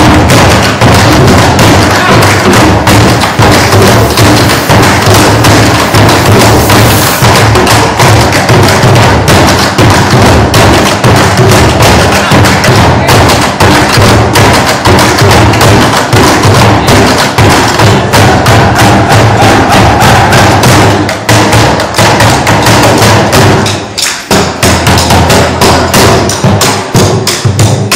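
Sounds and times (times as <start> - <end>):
drums playing a driving rhythm: 0.0 - 27.9.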